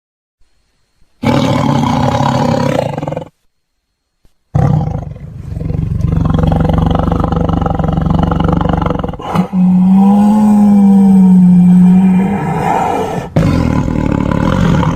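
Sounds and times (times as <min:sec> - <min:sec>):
tiger roaring: 0:01.2 - 0:03.4, 0:04.5 - 0:14.9.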